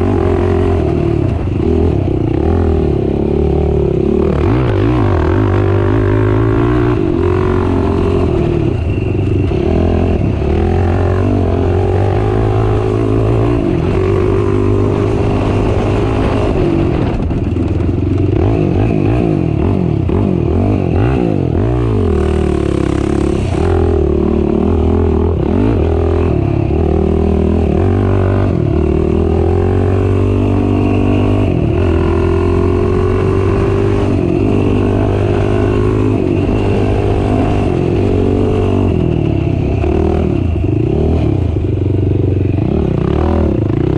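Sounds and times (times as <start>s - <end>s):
quad bike engine revving: 0.0s - 43.9s.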